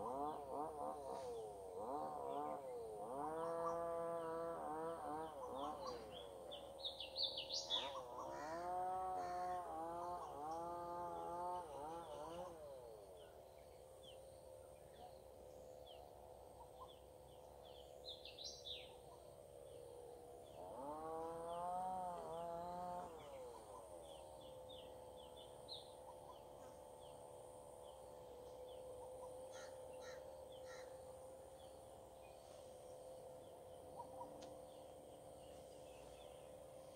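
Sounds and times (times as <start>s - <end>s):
droning tone: 0.0s - 36.9s
small birds chirping: 0.0s - 36.9s.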